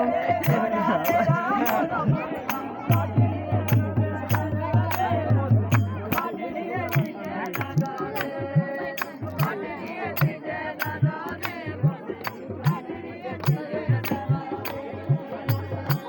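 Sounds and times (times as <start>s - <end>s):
drums beating: 0.0s - 16.0s.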